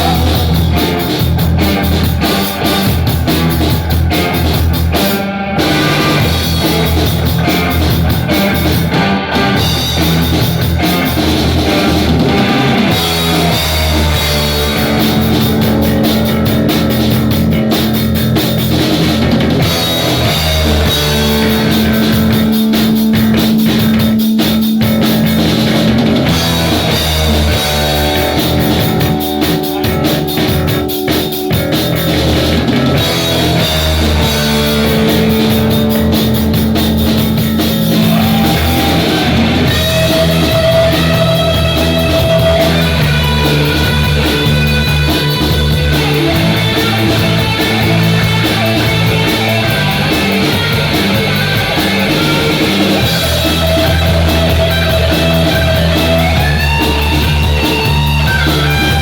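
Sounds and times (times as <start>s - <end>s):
rock music with drums and guitar: 0.0s - 59.0s.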